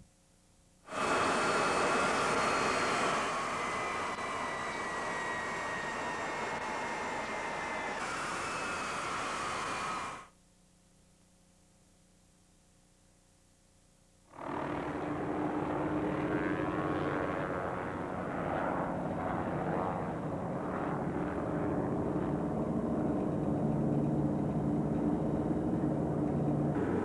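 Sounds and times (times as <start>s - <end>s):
jet engine wind machine running: 0.9s - 10.3s, 14.8s - 27.0s.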